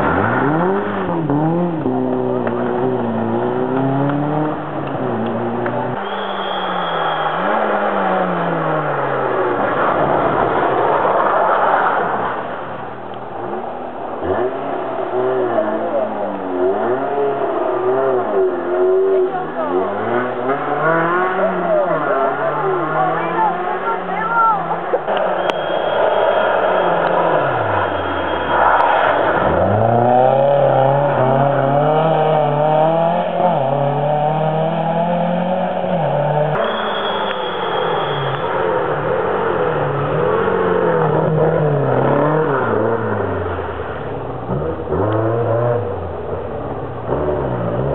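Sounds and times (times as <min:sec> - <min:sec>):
racing car engine revving: 0:00.0 - 0:47.9.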